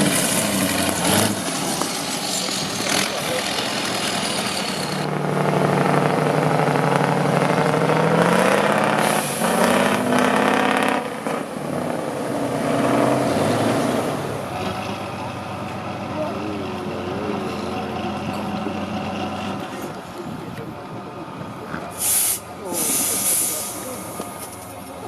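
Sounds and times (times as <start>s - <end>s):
diesel truck engine revving: 0.0s - 25.0s.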